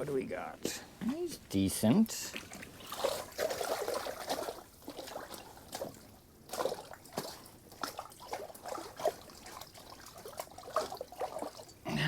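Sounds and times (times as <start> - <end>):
water trickling and splashing: 1.8 - 12.0.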